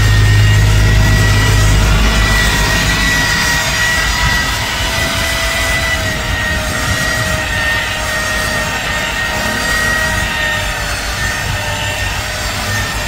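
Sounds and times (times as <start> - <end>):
polishing machine whining: 0.0 - 13.0.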